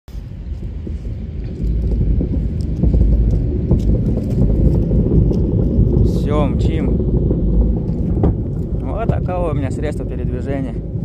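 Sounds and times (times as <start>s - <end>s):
small vehicle rumbling: 0.1s - 11.0s
rattles: 0.2s - 11.0s.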